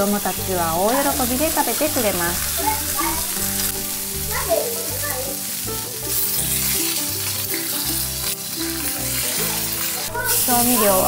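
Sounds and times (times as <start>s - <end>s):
background music with bass notes: 0.0s - 11.0s
meat sizzling in a frying pan: 0.0s - 11.0s
metal tongs turning food: 0.0s - 11.0s.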